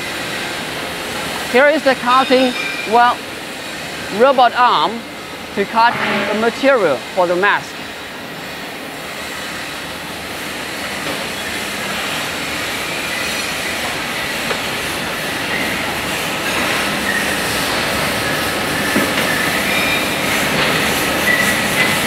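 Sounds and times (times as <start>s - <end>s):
workshop machinery running: 0.0s - 22.0s.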